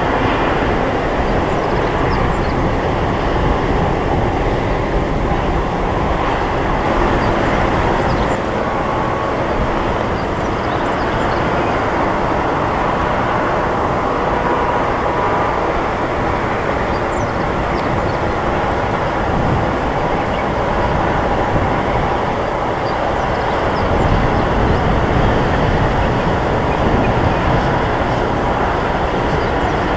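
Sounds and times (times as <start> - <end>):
jet engines roaring: 0.0 - 29.9.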